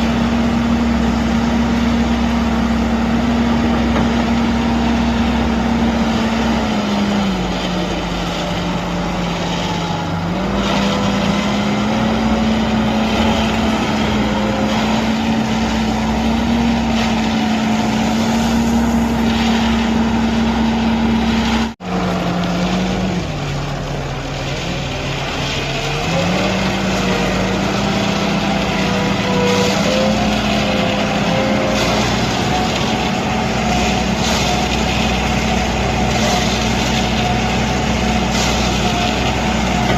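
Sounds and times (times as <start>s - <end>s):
diesel concrete mixer engine: 0.0s - 39.9s.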